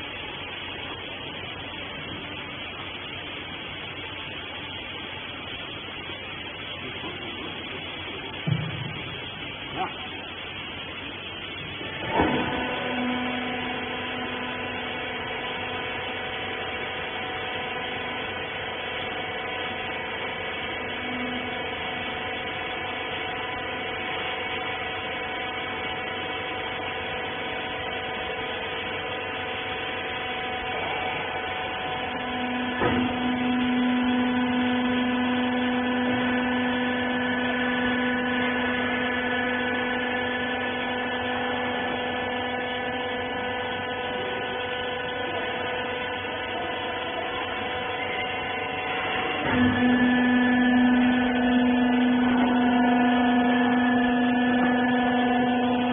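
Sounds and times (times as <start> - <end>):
electric motor and hydraulic pump hum: 0.0 - 55.9.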